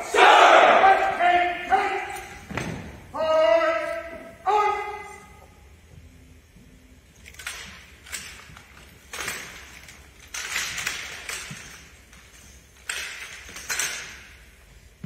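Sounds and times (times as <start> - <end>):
drill rifles cracking in a gym: 0.0 - 15.0.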